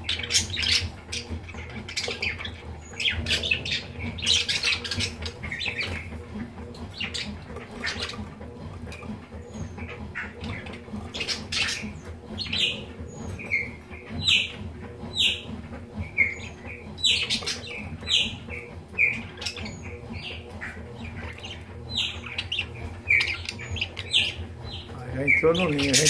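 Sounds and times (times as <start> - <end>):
budgerigars chirping: 0.1 - 6.1, 9.8 - 15.4, 16.1 - 26.0
budgerigars soft chattering: 0.1 - 6.1, 9.7 - 15.4, 16.1 - 26.0.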